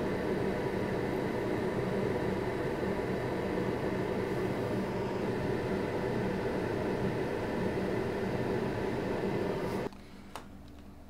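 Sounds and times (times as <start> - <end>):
low hum: 0.0 - 10.0
fan whirring: 0.0 - 11.0.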